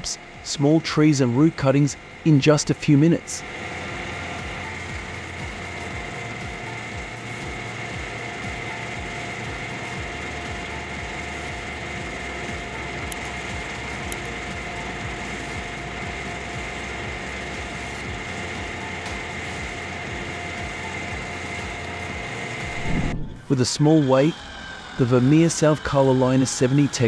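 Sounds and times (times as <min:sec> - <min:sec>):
heavy machinery engine drone: 0:00.0 - 0:27.0
steady high whine: 0:00.0 - 0:27.0.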